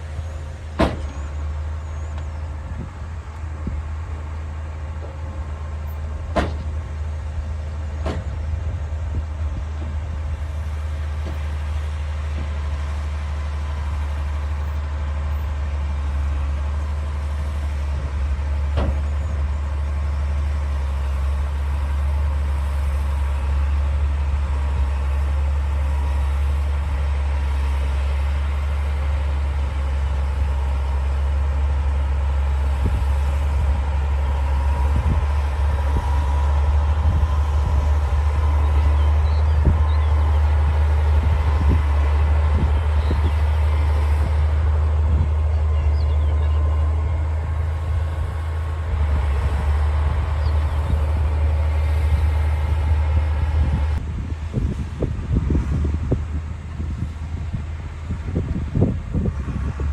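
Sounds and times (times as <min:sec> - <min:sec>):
bulldozer diesel engine droning: 0:00.0 - 0:59.9.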